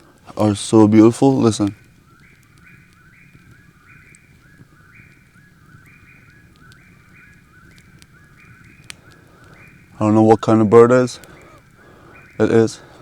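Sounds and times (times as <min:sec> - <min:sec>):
birds calling with short notes: 0:01.0 - 0:13.0.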